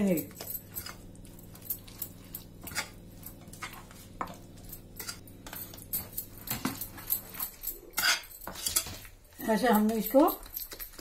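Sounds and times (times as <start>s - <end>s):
batter being stirred in bowl: 0.0s - 11.0s.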